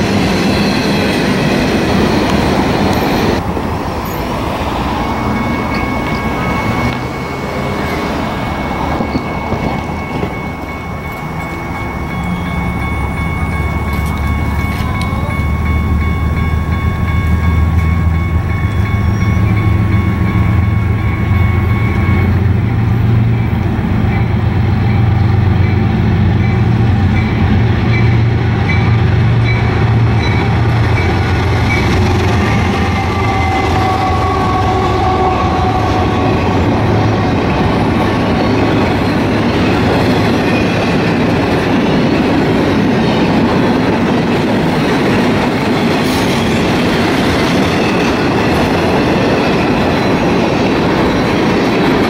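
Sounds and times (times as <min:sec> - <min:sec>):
diesel locomotive engine rumble: 0:00.0 - 0:52.0.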